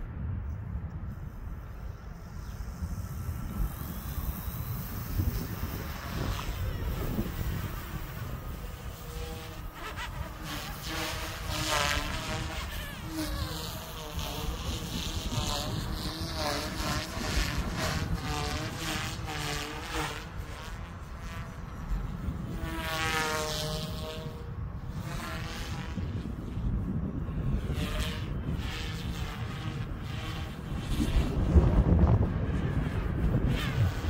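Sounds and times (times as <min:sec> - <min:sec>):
wind rumbling on microphone: 0:00.0 - 0:34.0
rc helicopter motor whining: 0:00.9 - 0:34.0.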